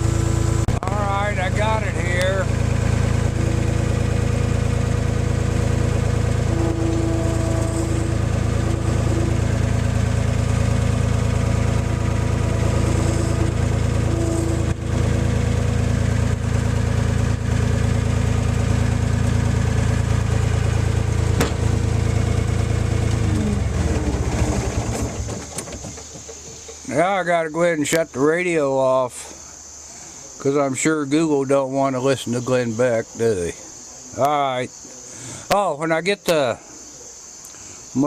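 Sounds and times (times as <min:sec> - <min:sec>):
skid loader engine idling: 0:00.0 - 0:38.0.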